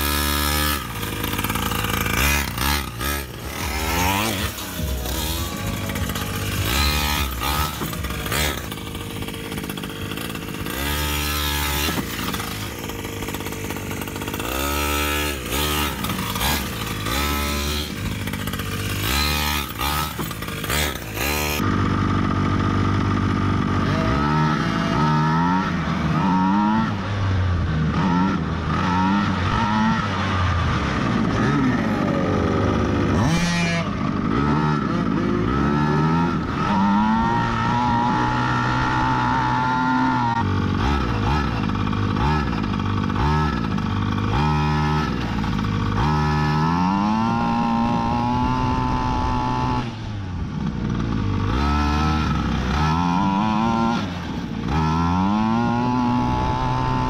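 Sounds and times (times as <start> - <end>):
small engine revving: 0.0 - 57.0.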